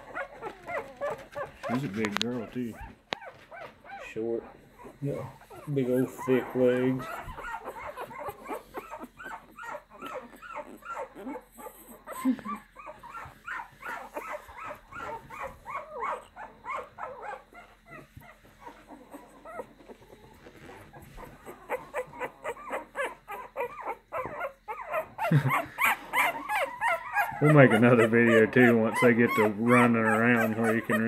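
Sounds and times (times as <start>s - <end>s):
puppy whimpering and squealing: 0.0s - 31.0s.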